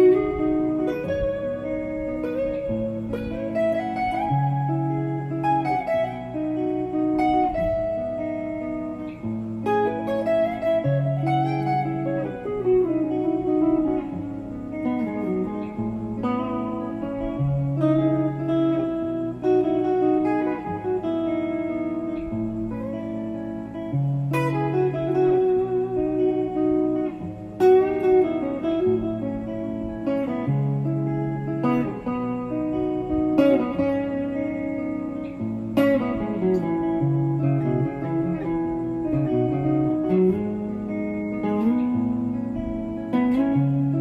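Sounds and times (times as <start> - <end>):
plucked guitar melody: 0.0 - 44.0.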